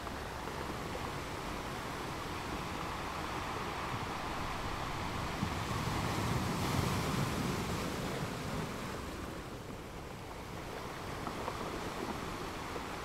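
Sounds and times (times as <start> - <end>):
sea waves breaking on shore: 0.3 - 13.0.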